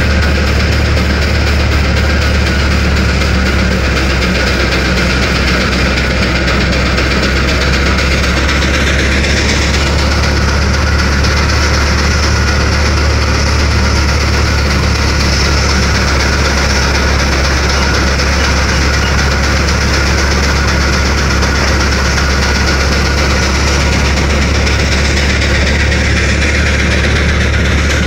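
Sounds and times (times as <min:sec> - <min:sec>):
threshing machine running: 0:00.0 - 0:28.0.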